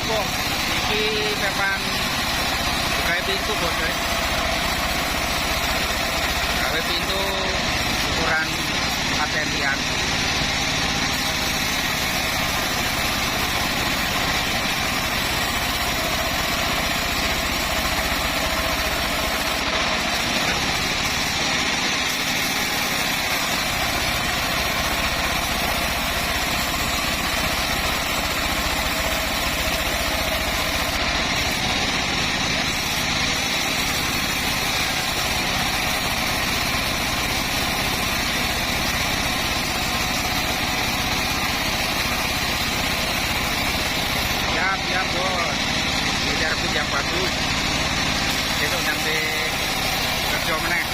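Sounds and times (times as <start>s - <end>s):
bandsaw mill droning: 0.0s - 50.9s.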